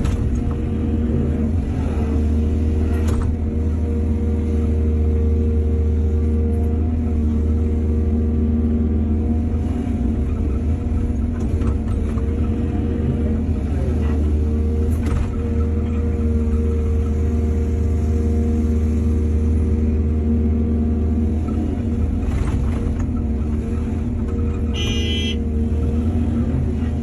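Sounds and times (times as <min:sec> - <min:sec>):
excavator diesel engine droning: 0:00.0 - 0:27.0.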